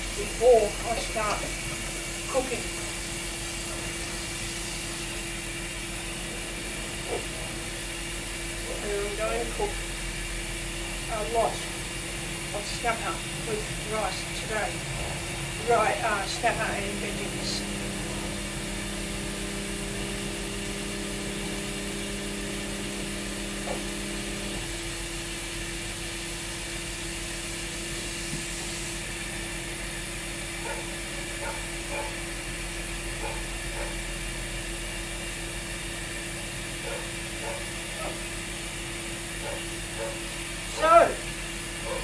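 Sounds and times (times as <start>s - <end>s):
microwave oven humming: 0.0s - 42.0s.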